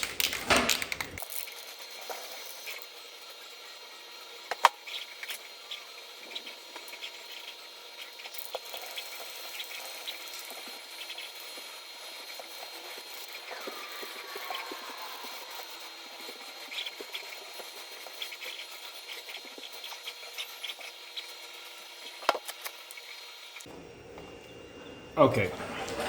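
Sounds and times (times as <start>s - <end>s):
aerosol spray hissing: 1.6s - 23.2s.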